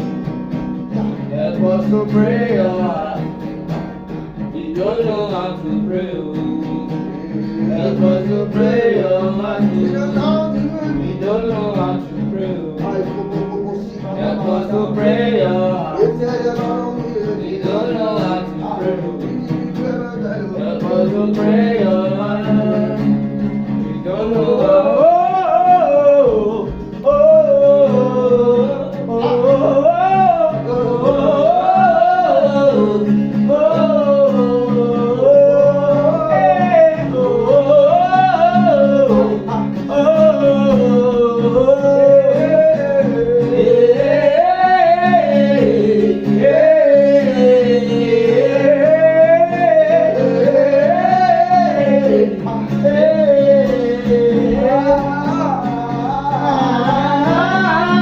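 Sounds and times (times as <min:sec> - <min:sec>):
held instrumental chord with guitar: 0:00.0 - 0:58.0.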